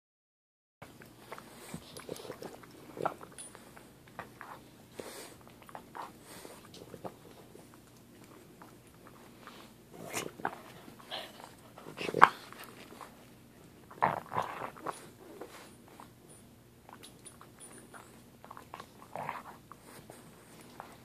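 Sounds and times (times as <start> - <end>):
dog chewing with crunches: 0.8 - 21.0.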